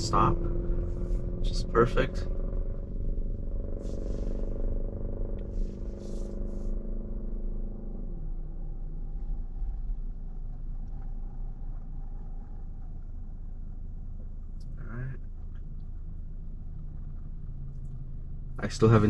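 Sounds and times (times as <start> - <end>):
low road rumble: 0.0 - 19.0
steady car hum: 0.0 - 19.0.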